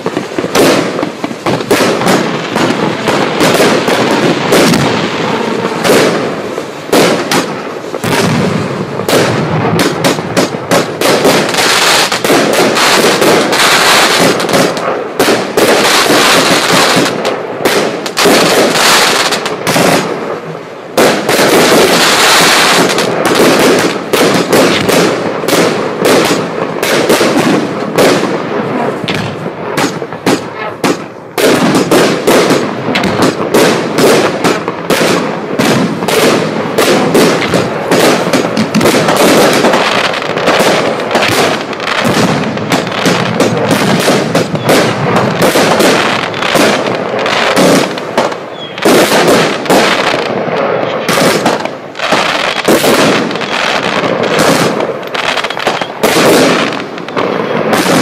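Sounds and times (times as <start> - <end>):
firework barrage of rapid bangs: 0.0 - 58.0.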